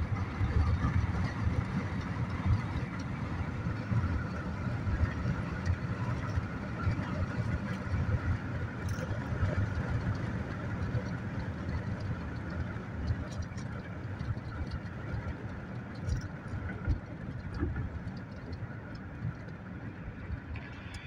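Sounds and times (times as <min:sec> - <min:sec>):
car cabin road and engine noise: 0:00.0 - 0:21.0.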